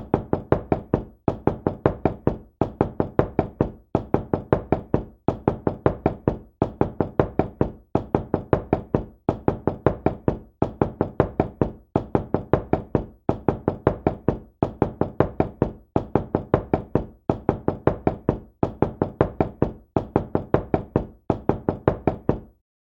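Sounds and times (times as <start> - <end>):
knocking on a door: 0.0 - 22.6.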